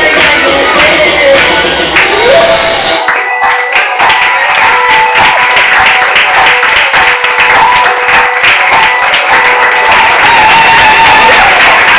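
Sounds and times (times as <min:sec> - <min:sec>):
audience applauding: 0:00.0 - 0:11.9
music: 0:00.0 - 0:11.9.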